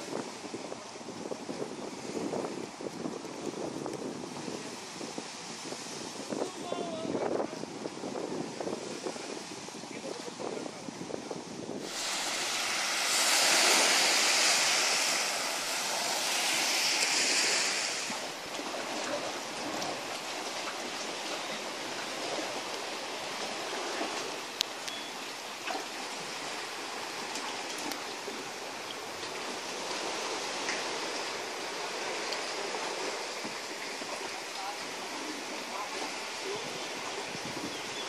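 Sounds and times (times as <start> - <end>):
sea waves on sandy shore: 0.0 - 38.0.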